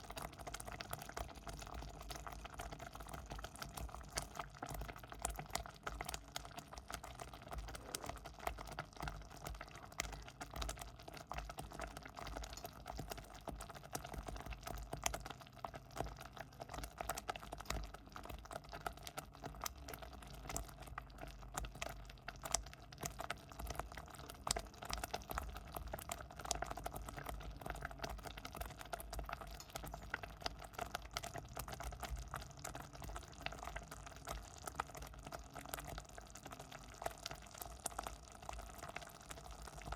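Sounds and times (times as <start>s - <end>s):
porridge bubbling in a pot: 0.0s - 39.9s.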